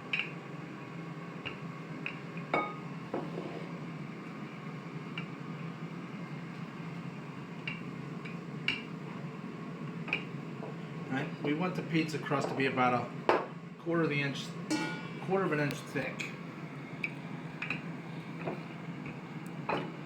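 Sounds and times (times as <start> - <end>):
steady low hum: 0.0 - 12.2, 12.8 - 20.0.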